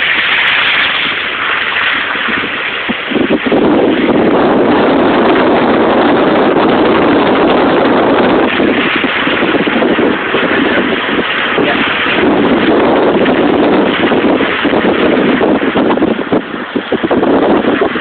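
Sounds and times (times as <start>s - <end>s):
floodwater rushing: 0.0s - 18.0s
storm wind rushing: 0.0s - 18.0s.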